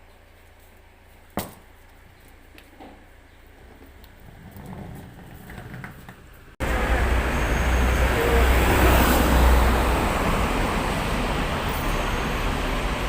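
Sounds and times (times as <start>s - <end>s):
vehicle and road rumble: 0.0s - 13.0s.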